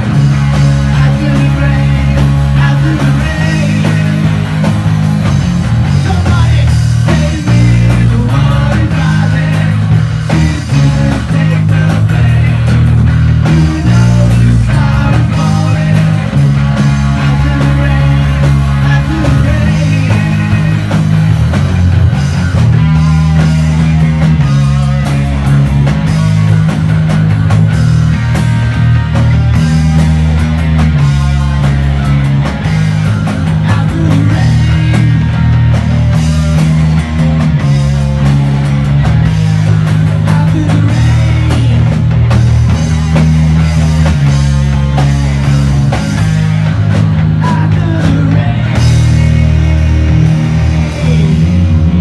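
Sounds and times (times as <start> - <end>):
drum kit: 0.0 - 52.0
electric bass: 0.0 - 52.0
electric guitars: 0.0 - 52.0.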